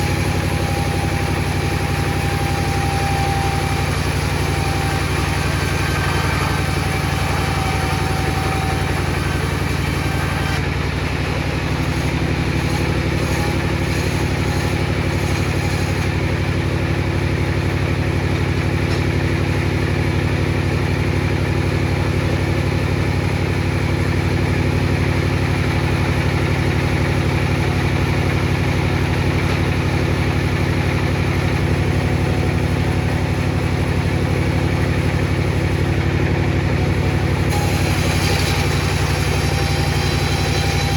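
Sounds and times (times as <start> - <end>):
table saw motor humming: 0.0 - 19.6, 23.6 - 40.9.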